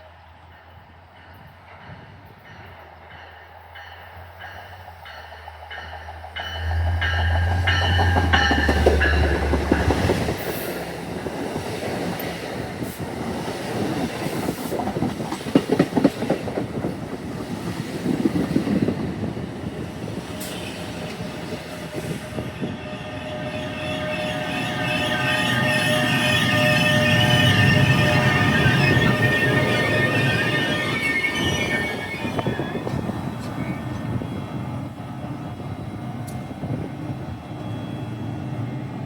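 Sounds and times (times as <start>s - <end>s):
train passing: 0.0s - 39.0s.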